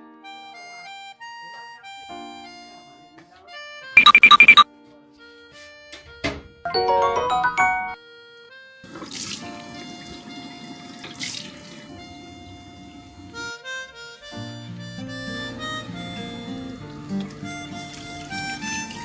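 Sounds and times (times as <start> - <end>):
background music with melody: 0.0 - 19.0.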